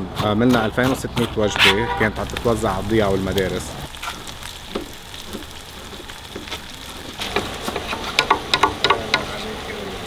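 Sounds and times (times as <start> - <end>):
water boiling in metal pot: 1.8 - 10.0.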